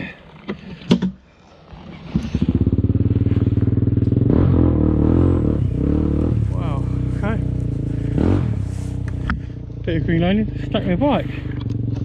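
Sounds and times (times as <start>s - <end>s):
motorcycle engine running: 1.7s - 12.0s.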